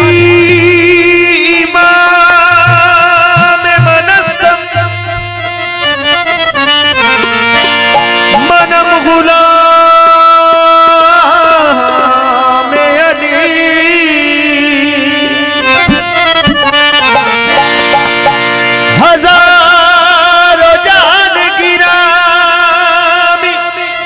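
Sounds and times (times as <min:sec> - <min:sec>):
tabla playing: 0:00.0 - 0:21.9
harmonium chords: 0:00.0 - 0:24.0
man singing: 0:00.0 - 0:24.0.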